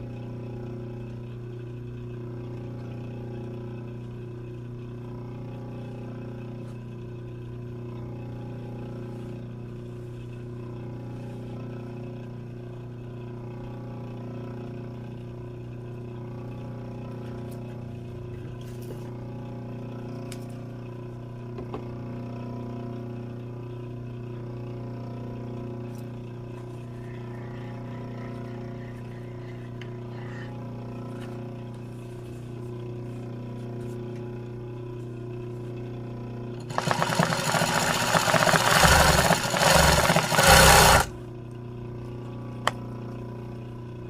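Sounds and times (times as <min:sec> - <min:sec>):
low electrical motor hum: 0:00.0 - 0:44.0.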